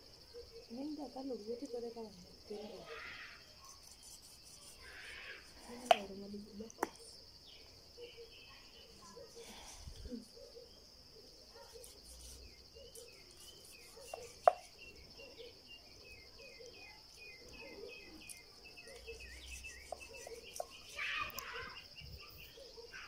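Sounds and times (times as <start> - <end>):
faint chirps: 0.0 - 23.0
insects buzzing: 0.0 - 23.0.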